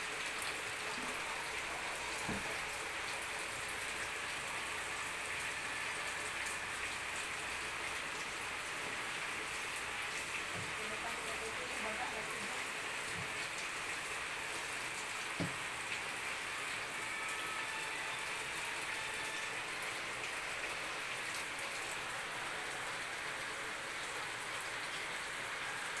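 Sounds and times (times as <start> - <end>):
scattered raindrops: 0.0 - 26.0
steady rain hissing: 0.0 - 26.0.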